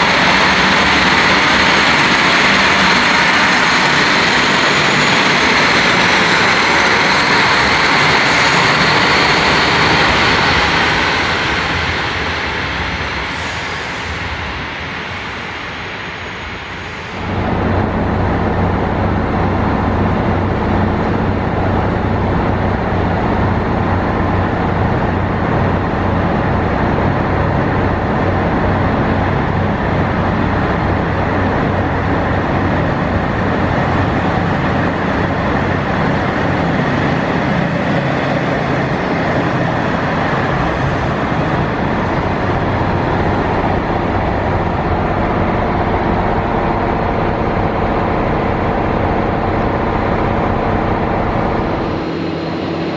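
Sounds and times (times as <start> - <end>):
railcar diesel engine humming: 0.0 - 52.9.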